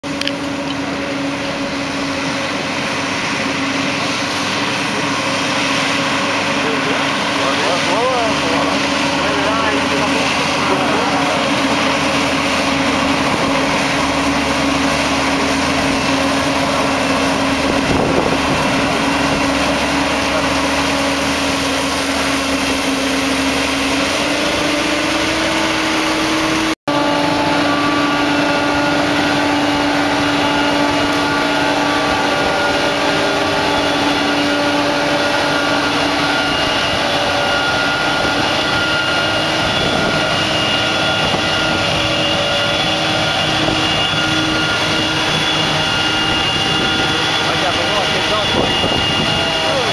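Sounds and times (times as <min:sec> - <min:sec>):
forage harvester engine droning: 0:00.0 - 0:49.9.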